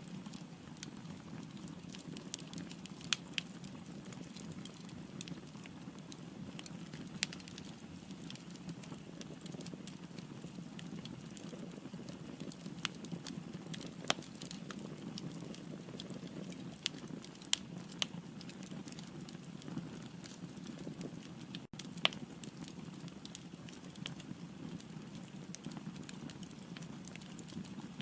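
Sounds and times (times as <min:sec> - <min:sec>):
fire crackles and pops: 0:00.0 - 0:28.0
firewood burning in fireplace: 0:00.0 - 0:28.0.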